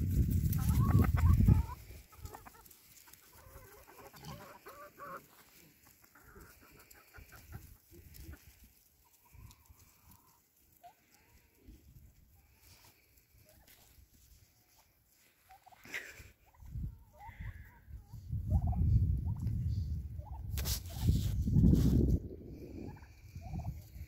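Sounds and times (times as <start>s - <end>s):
chickens clucking softly: 0.4s - 20.5s, 21.6s - 24.0s.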